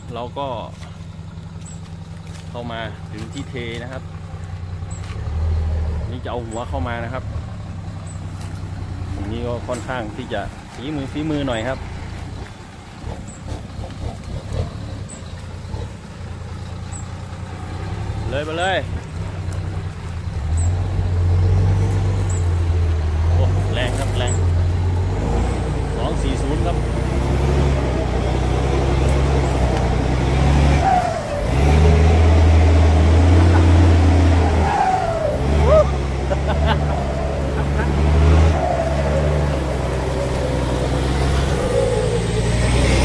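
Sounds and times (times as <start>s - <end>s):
diesel truck engine rumbling: 0.0s - 43.0s.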